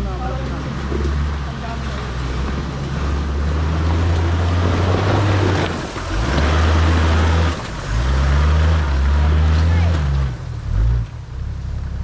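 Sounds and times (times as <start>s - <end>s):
vehicle engine running under load: 0.0s - 12.0s.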